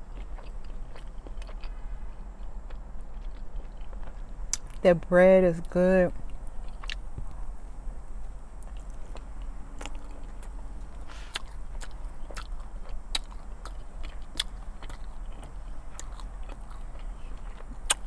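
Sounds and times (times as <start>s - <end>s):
close chewing with mouth clicks: 0.0s - 4.8s, 6.1s - 7.4s, 8.6s - 18.0s.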